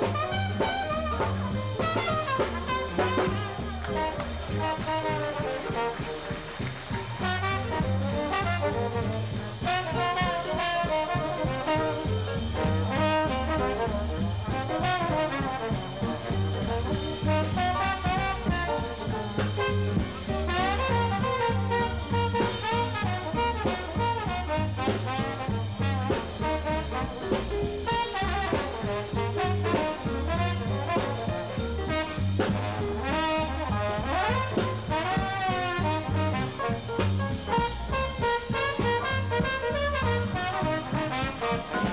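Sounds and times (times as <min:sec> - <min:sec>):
swing jazz band playing: 0:00.0 - 0:41.9
trombone solo sliding: 0:00.0 - 0:41.9.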